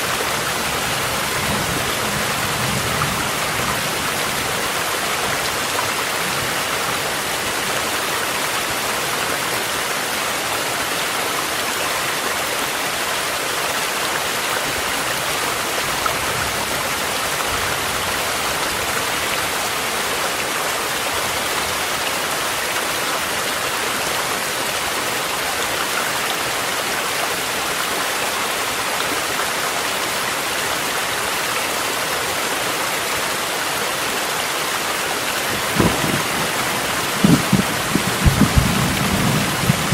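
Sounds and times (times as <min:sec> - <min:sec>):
mountain stream rushing: 0:00.0 - 0:39.9
steady rain: 0:00.0 - 0:39.9.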